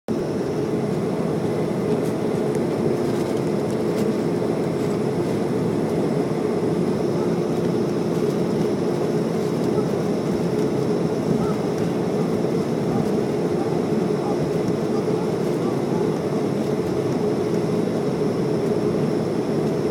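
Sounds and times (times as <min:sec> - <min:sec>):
jet engines droning: 0:00.1 - 0:19.9.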